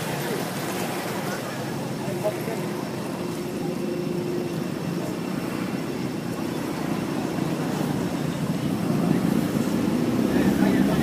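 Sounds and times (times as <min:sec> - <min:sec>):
low engine-like drone: 0:00.0 - 0:11.0.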